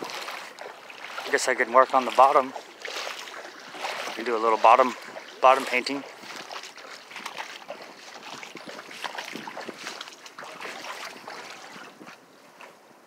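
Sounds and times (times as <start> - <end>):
shallow water sloshing and splashing: 0.0 - 12.8.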